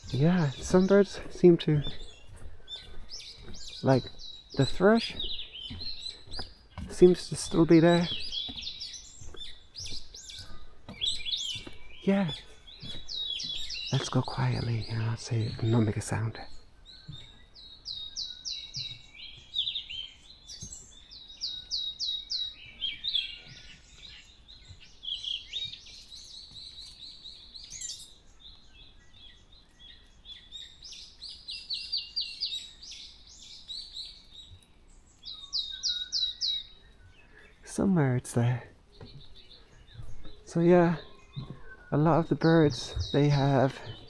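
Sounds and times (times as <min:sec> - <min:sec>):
birds chirping and calling: 0:00.0 - 0:44.0.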